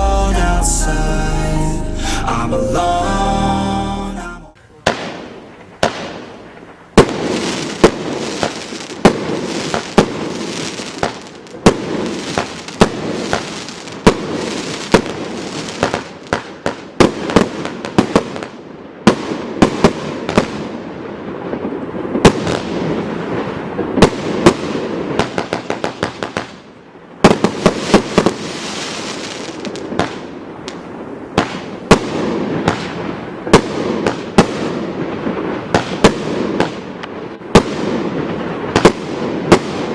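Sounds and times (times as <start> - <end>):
firework bangs: 4.7 - 20.8, 21.5 - 26.6, 27.2 - 39.9
firework rushing crackle: 4.9 - 18.6, 19.2 - 39.9.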